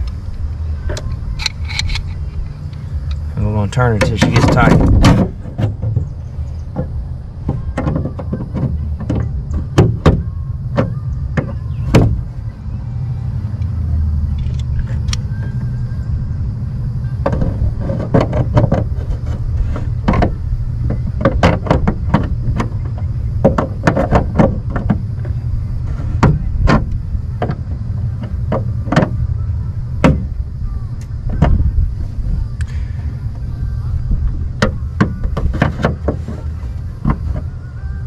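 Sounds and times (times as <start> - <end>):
low rumble: 0.0 - 21.2, 21.9 - 35.6.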